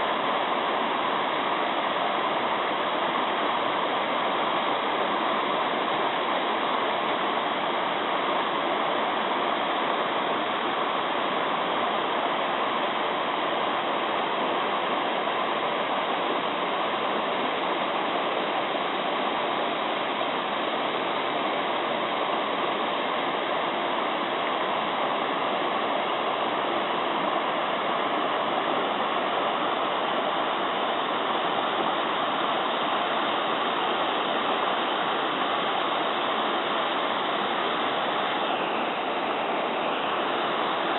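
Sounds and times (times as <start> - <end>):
mountain stream babbling: 0.0 - 40.9.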